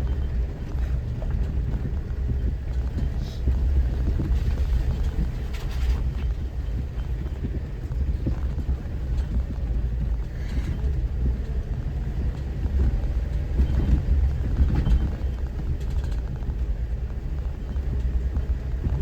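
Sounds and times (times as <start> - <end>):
knocks and rattles: 0.0 - 19.0
vehicle engine rumble: 0.0 - 19.0.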